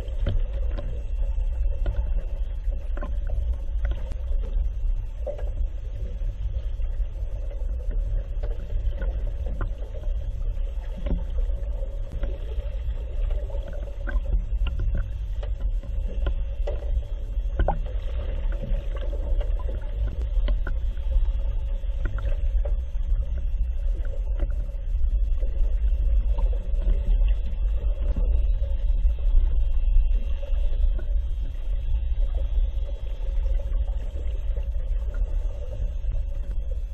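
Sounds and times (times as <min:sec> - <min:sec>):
constant hum: 0:00.0 - 0:36.9
low underwater rumble: 0:00.0 - 0:36.9.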